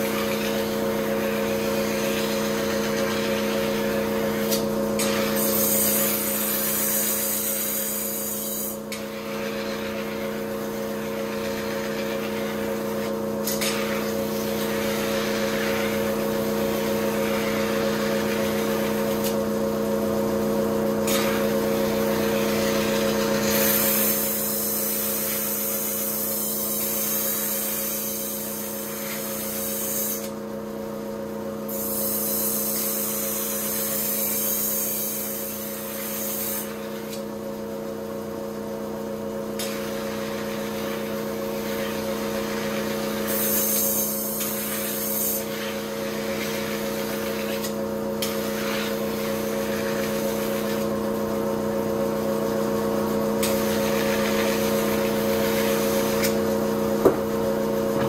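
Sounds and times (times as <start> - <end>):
grinder motor hum: 0.0 - 29.3, 35.2 - 58.0.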